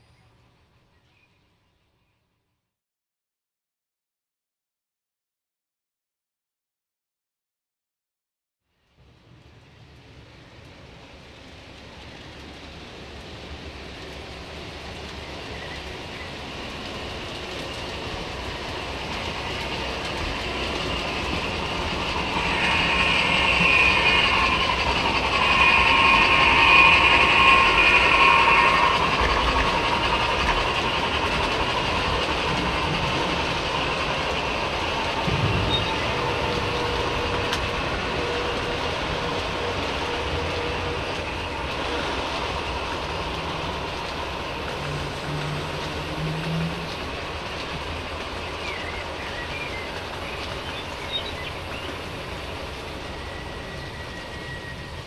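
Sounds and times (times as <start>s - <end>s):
model train rolling: 8.9s - 55.0s.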